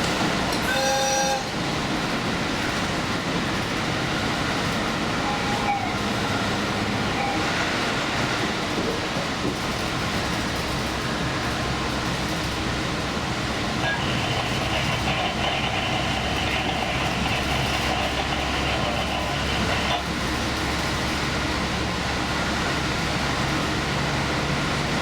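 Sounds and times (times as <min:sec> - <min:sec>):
train engine and wheels rumbling: 0:00.0 - 0:25.0.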